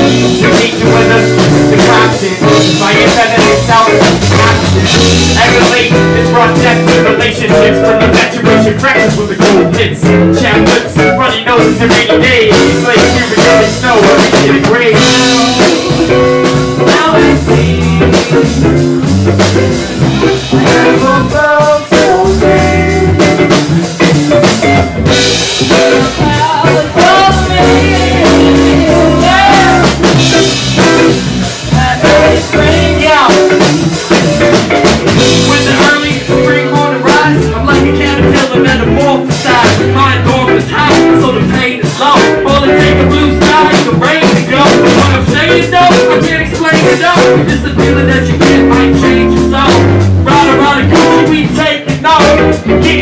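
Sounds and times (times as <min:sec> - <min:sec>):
live funk band playing: 0:00.0 - 0:53.0
person singing: 0:00.0 - 0:53.0.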